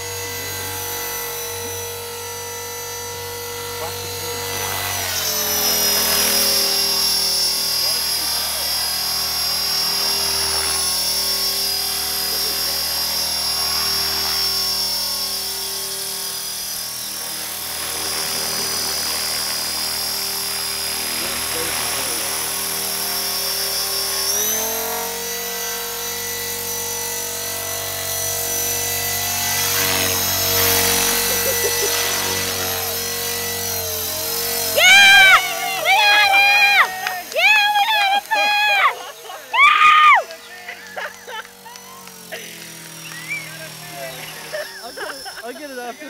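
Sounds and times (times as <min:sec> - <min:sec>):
rc helicopter rotor whining: 0:00.0 - 0:46.0.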